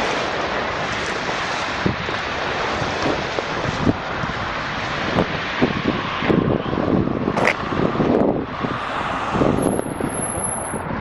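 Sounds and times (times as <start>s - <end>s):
sea waves on beach: 0.0s - 11.0s
wind buffeting microphone: 0.0s - 11.0s.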